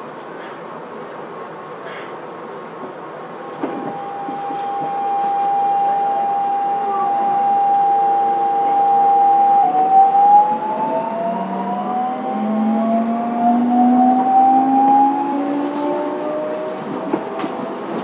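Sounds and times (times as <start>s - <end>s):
electric train motor tones rising: 3.5s - 18.0s.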